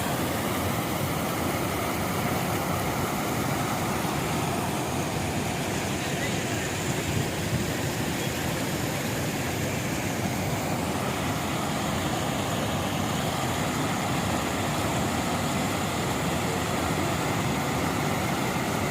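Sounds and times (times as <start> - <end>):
rainwater runoff rushing: 0.0 - 18.9.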